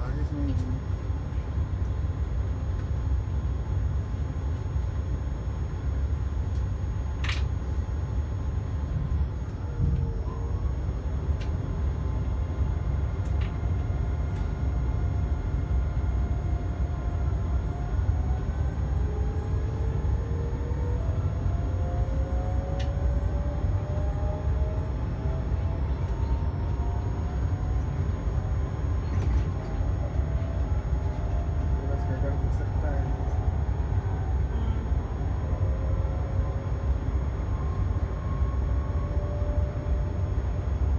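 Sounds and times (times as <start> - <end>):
train low rumble: 0.0 - 40.9
faint rising whine: 5.1 - 40.9.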